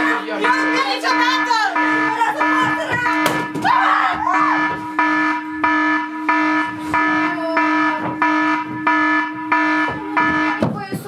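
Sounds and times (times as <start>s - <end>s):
pulsing electronic alarm tones: 0.0s - 10.8s.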